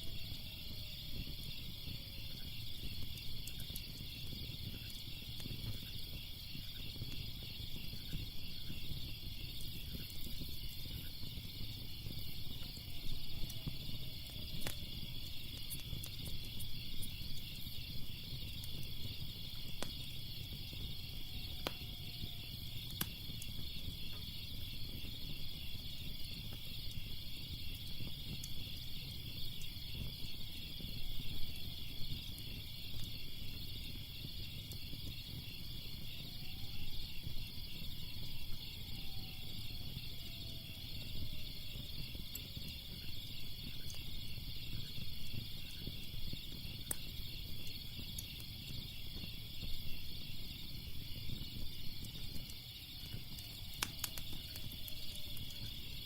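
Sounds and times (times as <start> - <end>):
crickets chirping: 0.0 - 56.0
wood fire crackling: 0.0 - 56.0.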